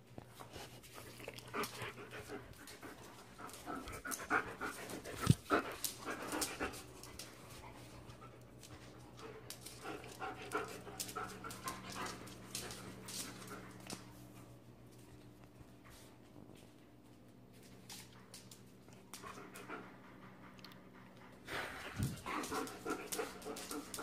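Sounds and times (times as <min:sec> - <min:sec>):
dogs panting and scuffling: 0:00.0 - 0:24.0.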